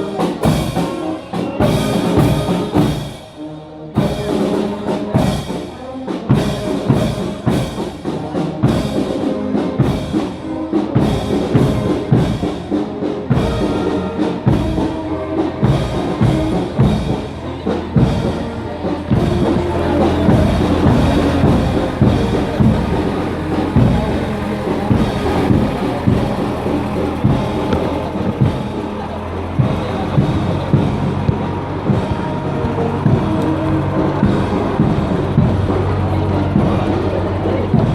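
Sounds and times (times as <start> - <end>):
brass notes: 0.0 - 37.9.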